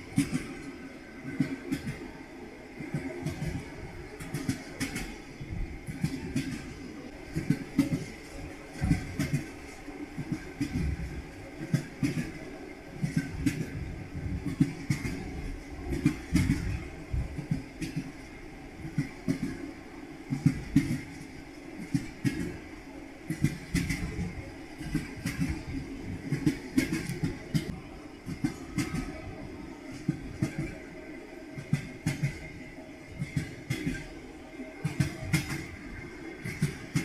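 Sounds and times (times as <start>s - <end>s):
train wheels clattering over joints: 0.0s - 2.2s, 2.8s - 19.7s, 20.3s - 34.2s, 34.8s - 37.0s.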